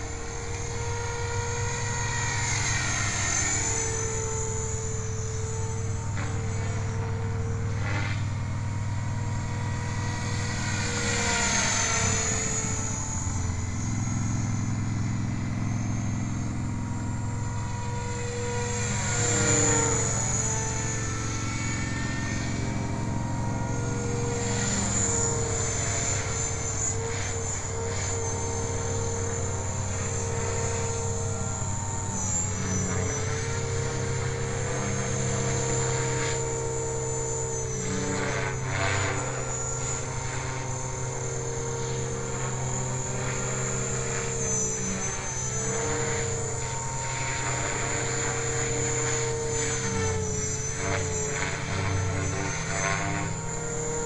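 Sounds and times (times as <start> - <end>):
rc helicopter motor whine: 0.0 - 54.0
rotor blade noise: 0.0 - 54.0.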